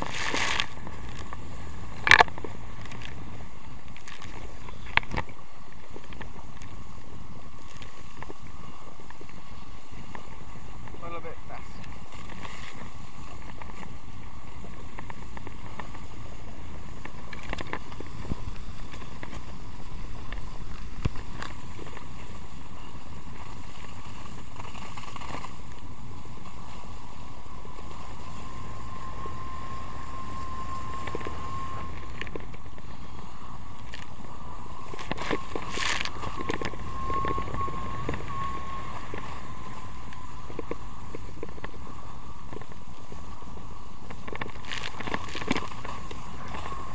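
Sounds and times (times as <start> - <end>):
faint steady whine: 0.0 - 46.9.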